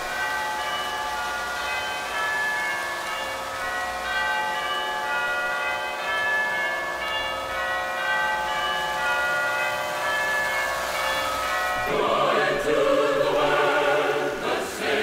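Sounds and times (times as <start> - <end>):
bells chiming a tune: 0.0 - 15.0.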